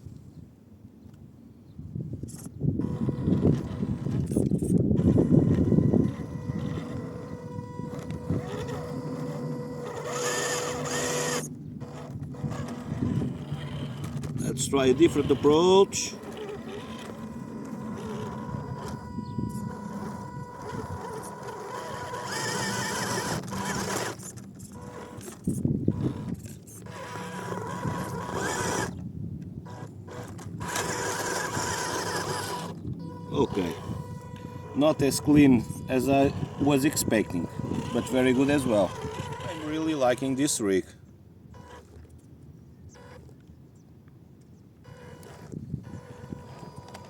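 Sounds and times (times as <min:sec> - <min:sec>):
small electric motor whining: 0:02.2 - 0:43.8, 0:44.4 - 0:47.0.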